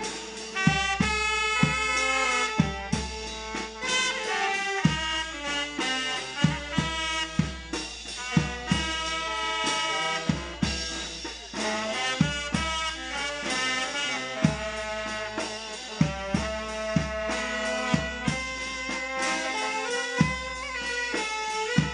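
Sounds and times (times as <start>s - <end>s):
brass band playing: 0.0s - 21.9s.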